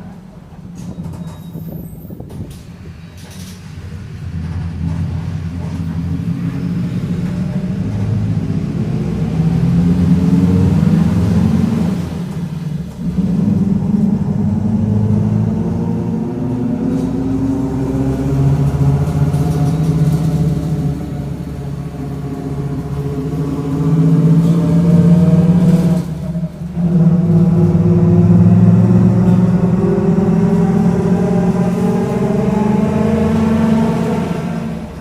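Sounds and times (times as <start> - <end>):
bus differential growling: 0.0 - 35.0.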